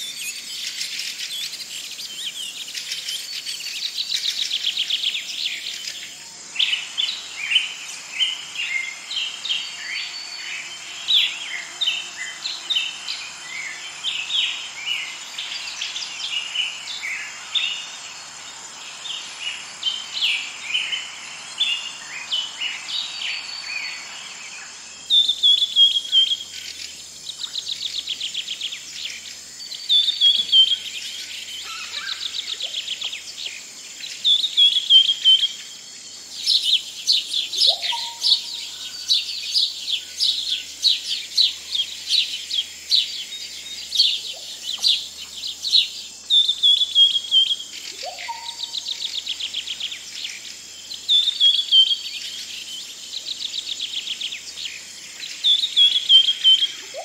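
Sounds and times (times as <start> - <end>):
birds singing trilled phrases: 0.0 - 57.0
high insect buzz: 0.0 - 57.0.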